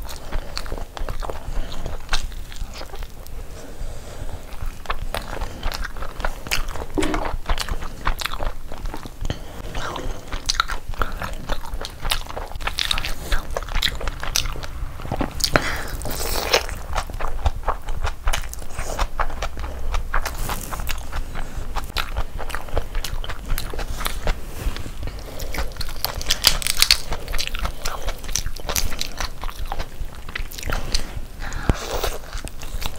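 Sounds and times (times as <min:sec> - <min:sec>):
wet chewing mouth sounds: 0:00.0 - 0:32.9.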